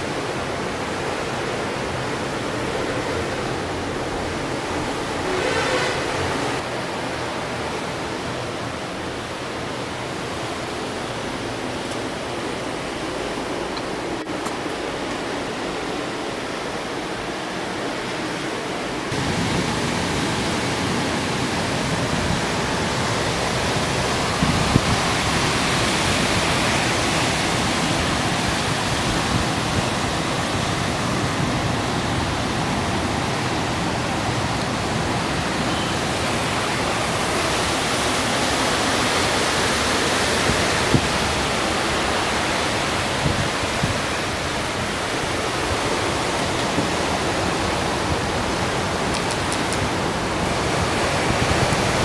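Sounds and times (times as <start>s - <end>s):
ocean surf roaring: 0.0s - 52.0s.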